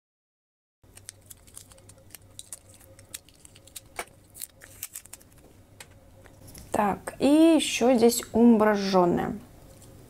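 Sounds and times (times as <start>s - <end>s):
faint steady hum: 0.9s - 10.0s.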